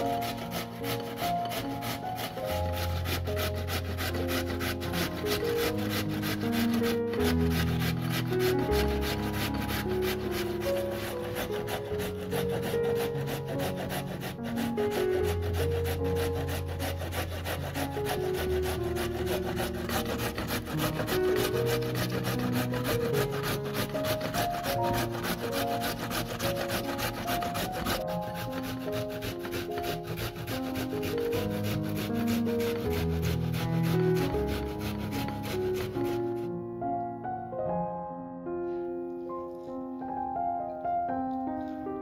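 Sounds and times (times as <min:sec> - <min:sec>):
carrot rasping on a metal grater: 0:00.0 - 0:36.5
soft background music: 0:00.0 - 0:42.0.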